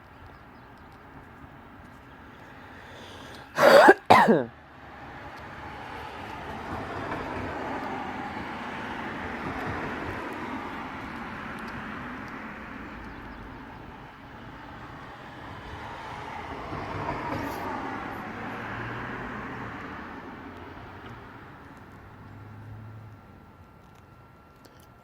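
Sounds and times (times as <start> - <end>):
passing road traffic: 0.0 - 25.0.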